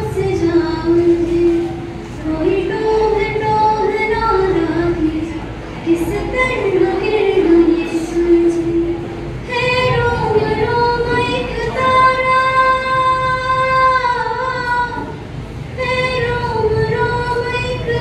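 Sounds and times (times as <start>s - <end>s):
girl singing unaccompanied: 0.0s - 18.0s.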